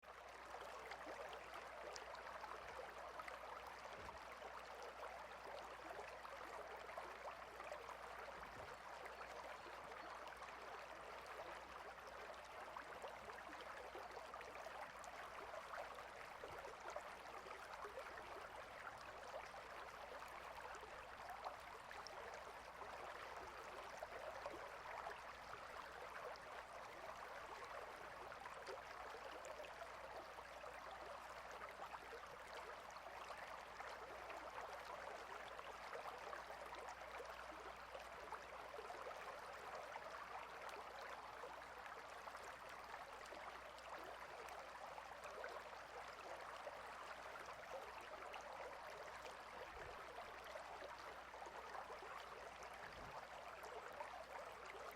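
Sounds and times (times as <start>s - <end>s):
stream babbling: 0.2s - 54.9s.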